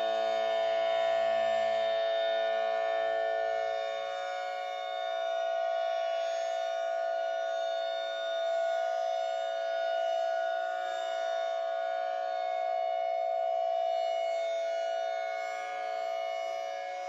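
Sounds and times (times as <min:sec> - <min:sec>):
processed civil defense siren: 0:00.0 - 0:17.0.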